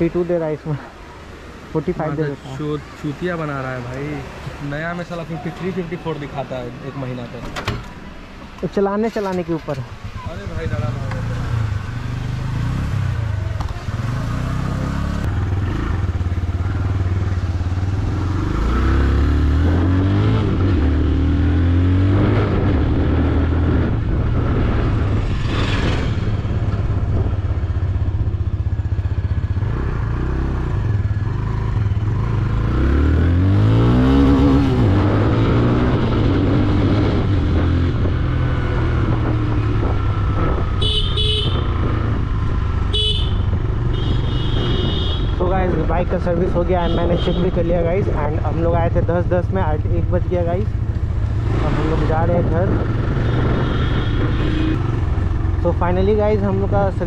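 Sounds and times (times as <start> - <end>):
motorcycle engine accelerating: 10.2 - 46.8, 47.5 - 57.0.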